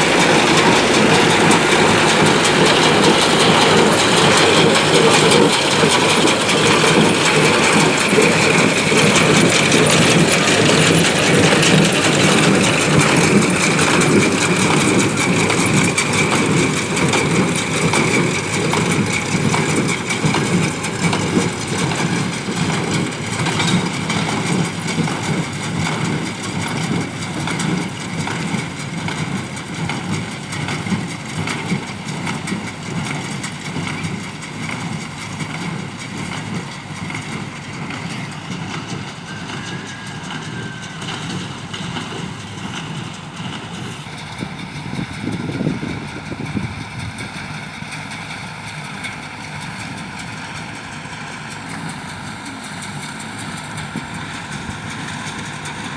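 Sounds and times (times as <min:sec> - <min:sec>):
baler mechanical clatter: 0:00.0 - 0:55.9
tractor engine running: 0:00.0 - 0:55.9.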